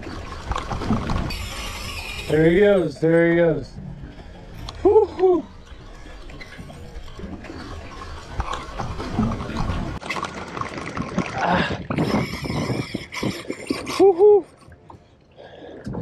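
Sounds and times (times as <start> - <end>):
water slapping against hull: 0.0 - 15.0.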